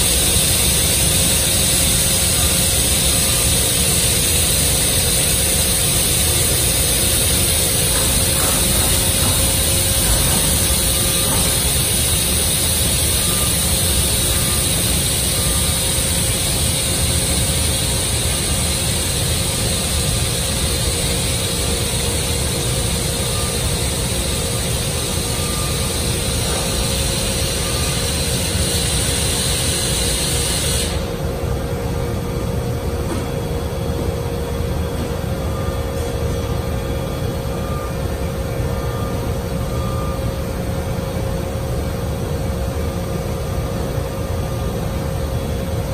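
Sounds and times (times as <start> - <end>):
machine rumble and hiss: 0.0 - 45.9
steady hum: 0.0 - 45.9.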